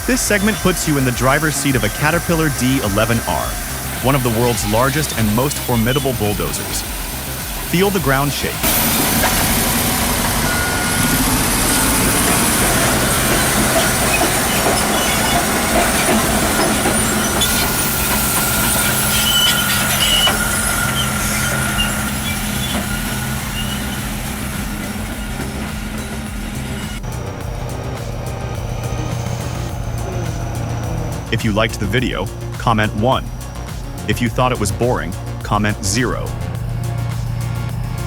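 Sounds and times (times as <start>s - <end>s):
bulldozer diesel engine: 0.0s - 38.0s
machine and track noise: 0.0s - 38.0s
thin steady whine: 0.0s - 38.0s.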